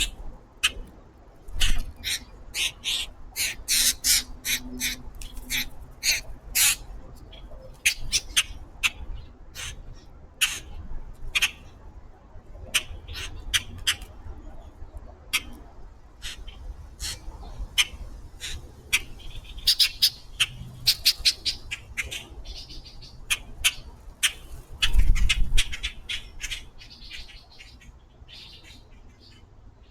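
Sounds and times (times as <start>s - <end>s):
birds giving harsh calls: 1.6s - 11.8s, 12.7s - 14.1s, 16.2s - 29.4s.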